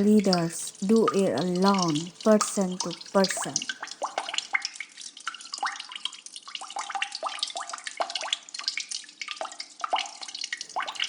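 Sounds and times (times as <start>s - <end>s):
water dripping and trickling: 0.0s - 11.0s.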